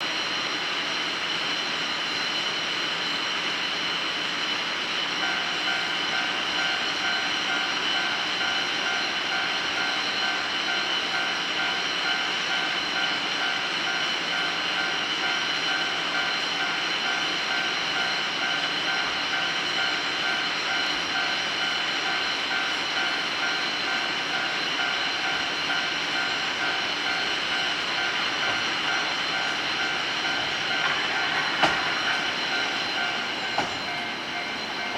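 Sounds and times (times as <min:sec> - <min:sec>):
level-crossing warning bell: 0:00.0 - 0:34.9.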